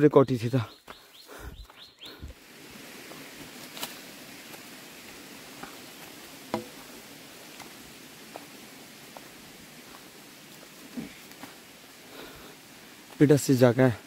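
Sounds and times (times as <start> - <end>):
faint steady hiss: 2.1 - 14.0.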